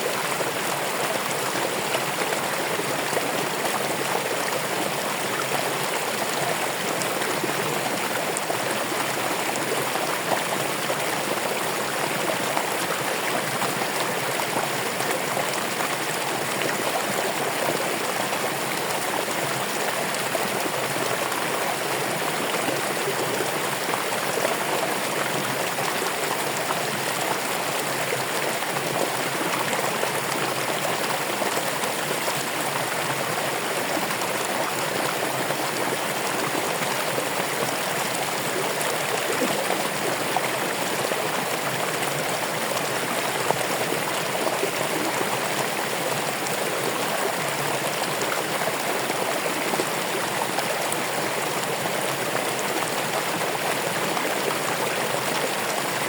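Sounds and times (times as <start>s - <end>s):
stream water rushing and trickling: 0.0s - 56.0s.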